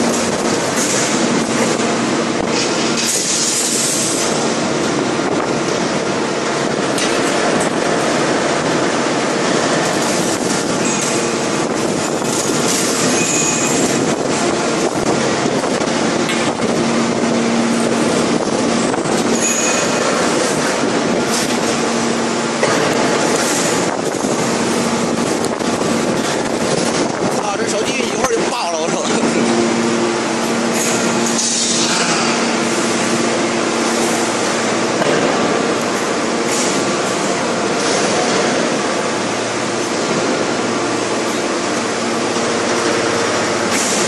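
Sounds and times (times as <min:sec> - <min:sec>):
low industrial hum: 0:00.0 - 0:44.0.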